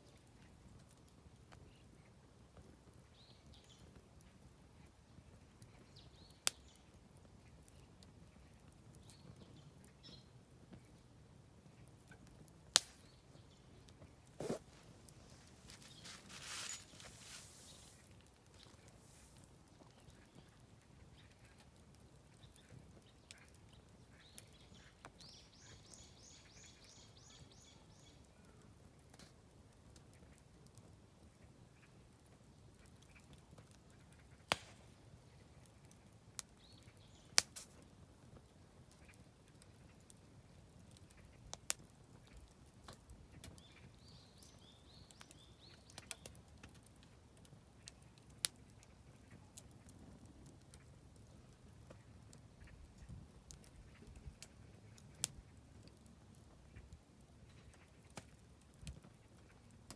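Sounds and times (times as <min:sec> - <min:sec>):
campfire crackling with pops: 0:00.0 - 0:26.4, 0:28.6 - 0:59.9.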